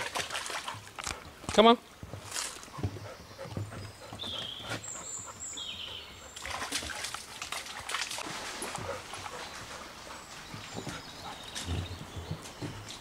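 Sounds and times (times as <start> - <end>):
footsteps on woodland path: 0.6 - 6.1, 8.0 - 13.0.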